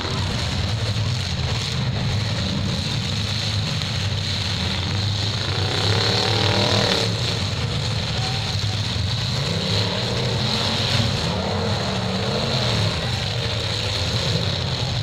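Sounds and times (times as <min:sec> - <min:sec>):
car engine revving: 0:00.0 - 0:15.0
car engines rumbling: 0:00.0 - 0:15.0.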